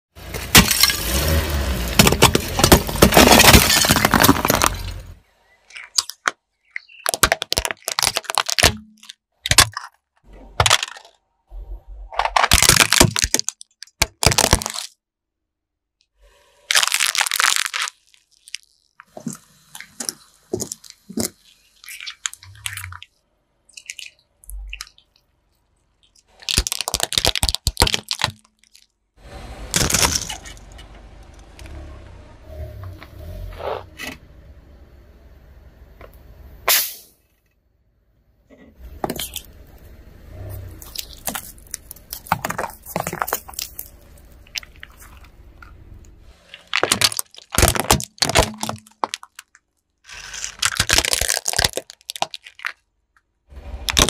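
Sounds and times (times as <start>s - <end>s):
car tyre crushing brittle objects: 0.2s - 11.3s, 12.0s - 15.0s, 16.7s - 31.9s, 38.8s - 54.0s.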